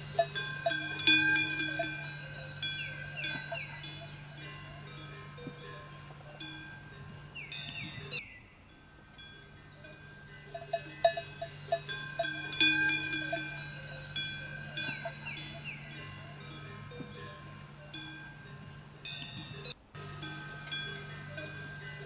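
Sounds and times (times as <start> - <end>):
livestock bells ringing: 0.0 - 22.0.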